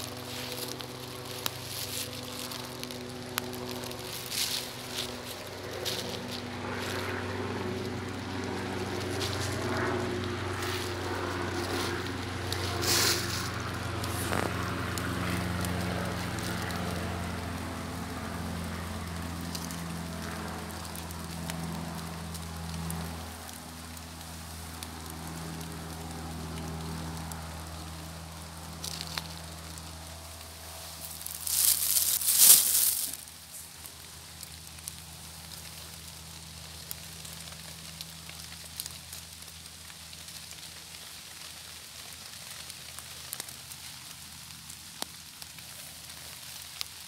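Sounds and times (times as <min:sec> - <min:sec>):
footsteps in dry leaves: 0:00.0 - 0:47.0
low mechanical hum: 0:00.0 - 0:47.0
sharp crackles: 0:00.0 - 0:47.0.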